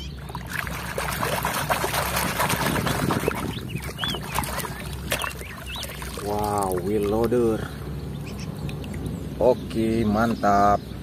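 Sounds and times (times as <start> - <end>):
water sloshing and splashing: 0.0 - 9.2.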